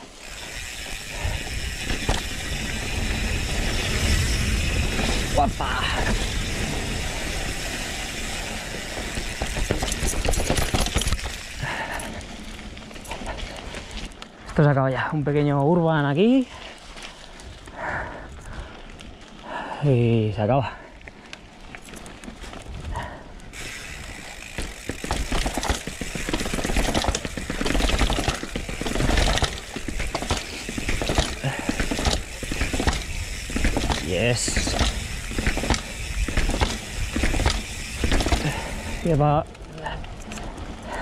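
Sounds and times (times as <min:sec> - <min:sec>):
bike rattling clicks and knocks: 0:00.0 - 0:19.4, 0:20.8 - 0:41.0
bike tyres rumbling on trail: 0:00.0 - 0:41.0.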